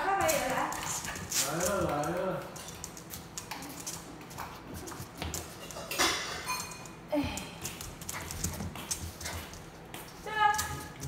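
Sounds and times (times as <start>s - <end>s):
dog claws on hardwood floor: 0.0s - 7.0s, 7.6s - 11.0s.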